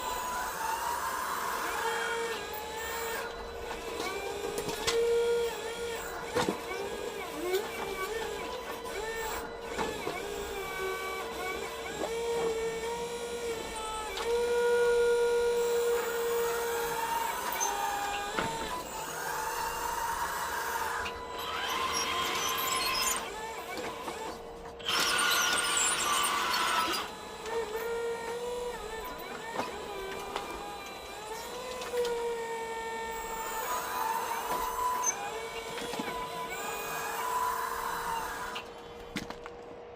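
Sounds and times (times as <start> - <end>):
model excavator electric motors whining: 0.0 - 39.9.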